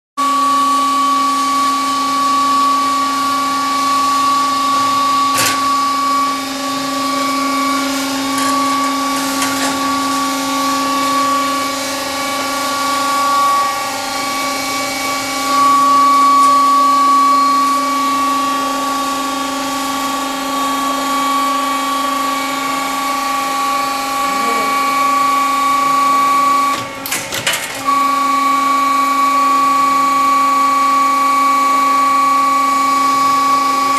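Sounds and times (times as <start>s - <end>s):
high motor whine: 0.2s - 33.9s.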